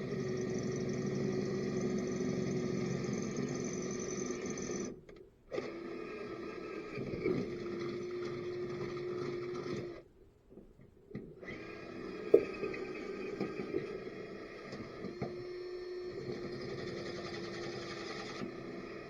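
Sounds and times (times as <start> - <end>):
electric drill whining: 0.0 - 10.1, 11.4 - 19.0.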